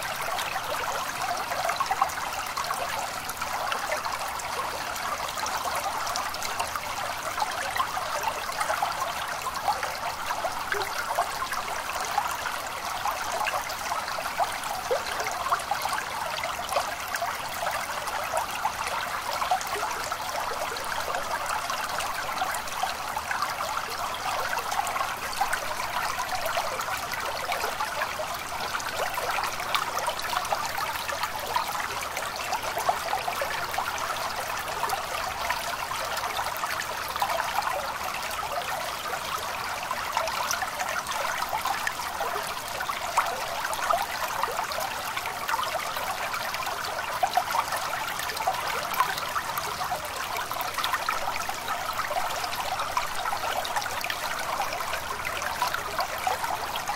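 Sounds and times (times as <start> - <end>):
stream babbling: 0.0 - 56.9.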